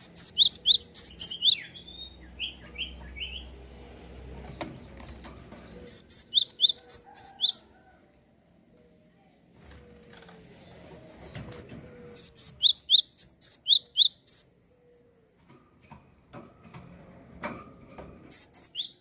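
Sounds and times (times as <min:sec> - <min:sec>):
songbird chirping: 0:00.0 - 0:16.8, 0:18.3 - 0:19.0.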